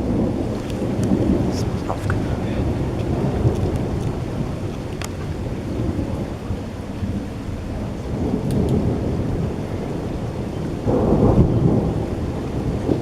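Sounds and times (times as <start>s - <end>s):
deep thunder rumbling: 0.0s - 13.0s
rain falling: 0.0s - 13.0s.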